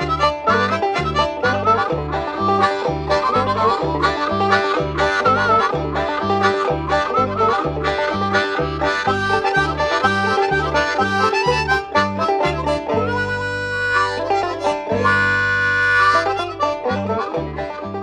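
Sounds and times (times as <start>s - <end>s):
folk country instrumental music: 0.0s - 18.0s.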